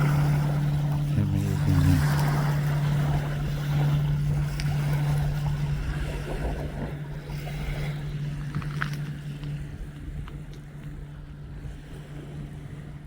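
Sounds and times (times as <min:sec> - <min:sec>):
boat engine droning: 0:00.0 - 0:13.0
wind on microphone: 0:00.0 - 0:13.0.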